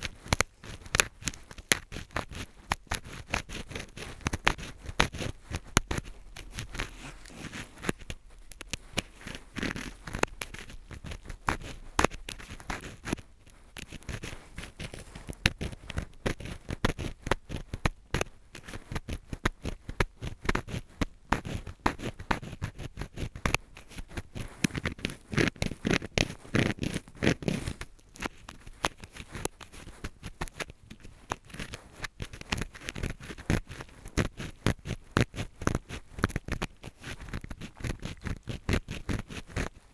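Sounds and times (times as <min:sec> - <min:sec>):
ear pick scratching: 0:00.0 - 0:39.9.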